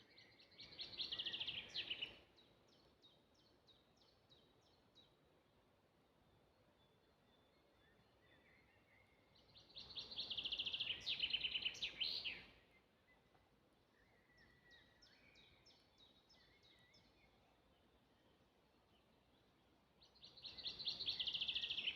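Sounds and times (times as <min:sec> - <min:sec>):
songbird singing: 0:00.0 - 0:21.9.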